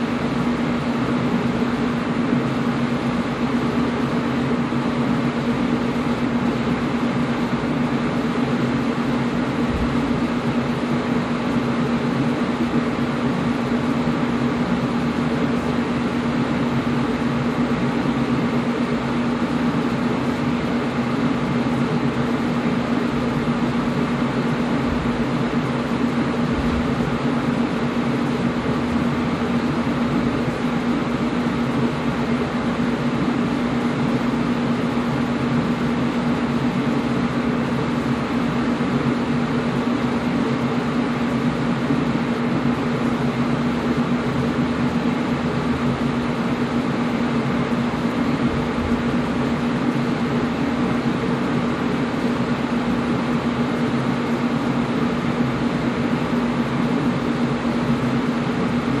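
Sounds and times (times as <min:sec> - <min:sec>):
air conditioner running: 0:00.0 - 0:59.0.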